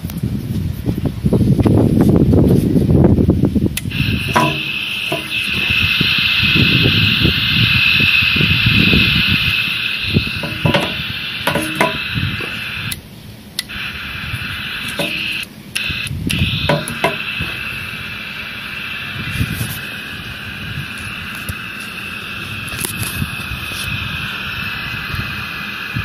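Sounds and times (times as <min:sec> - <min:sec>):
radio static hiss: 0:03.8 - 0:26.0.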